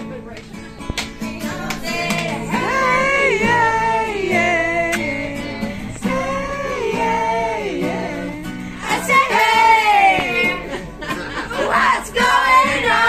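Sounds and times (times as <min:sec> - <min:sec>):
acoustic guitar: 0:00.0 - 0:13.0
woman singing: 0:01.3 - 0:10.8, 0:11.6 - 0:13.0.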